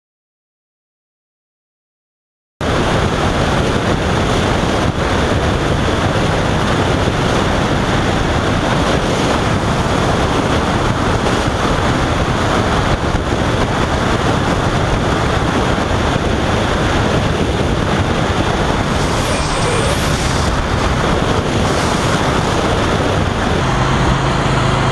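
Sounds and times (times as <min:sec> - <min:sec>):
wind rush on helmet: 0:02.6 - 0:24.2.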